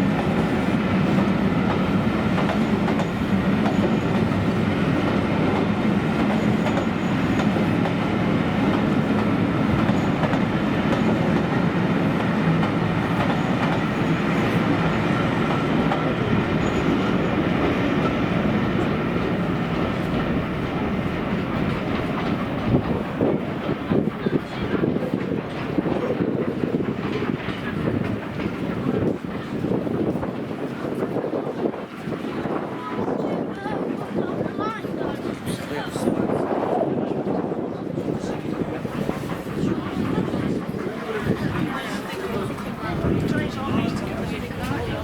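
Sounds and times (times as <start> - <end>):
train wheels rolling on rails: 0.0 - 45.0.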